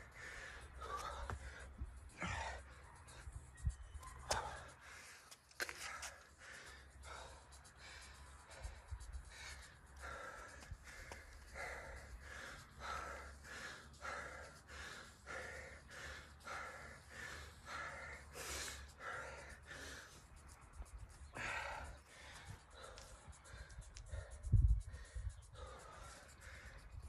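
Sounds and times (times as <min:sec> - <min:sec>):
man breathing hard: 0:00.0 - 0:03.3, 0:04.3 - 0:27.0.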